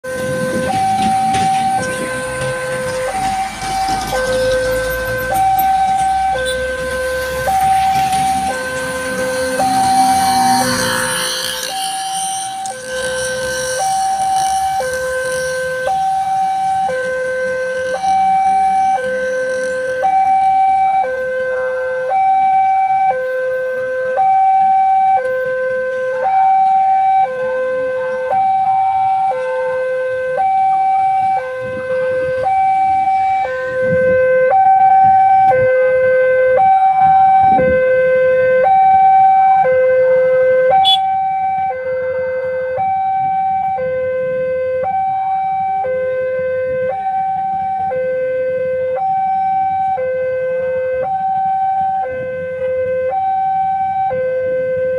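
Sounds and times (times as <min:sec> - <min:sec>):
two-tone crossing alarm: 0:00.0 - 0:54.9.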